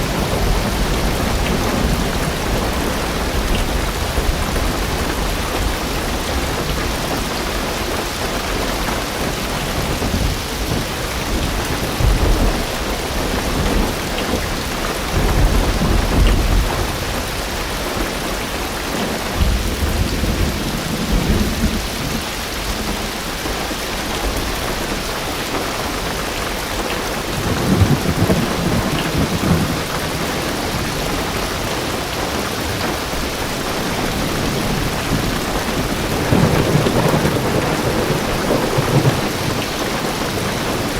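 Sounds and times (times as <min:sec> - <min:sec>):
heavy rain on car roof: 0:00.0 - 0:40.9
thunder rumbling: 0:00.0 - 0:40.9.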